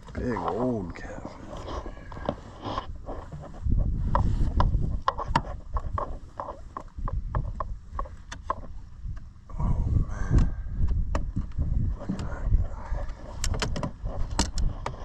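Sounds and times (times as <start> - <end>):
knocks and clicks on boat: 0.0 - 9.3, 10.3 - 15.0
wind rumble on microphone: 0.0 - 15.0.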